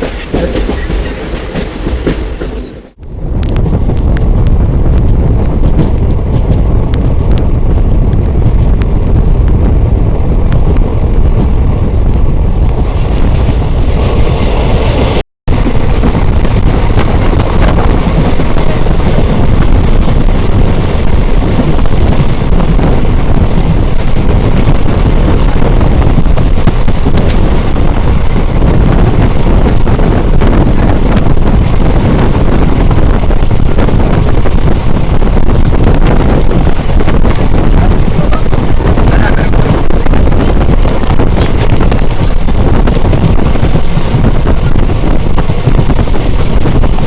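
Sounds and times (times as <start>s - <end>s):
train running rumble: 0.0s - 47.0s
wind rushing over microphone: 0.0s - 47.0s.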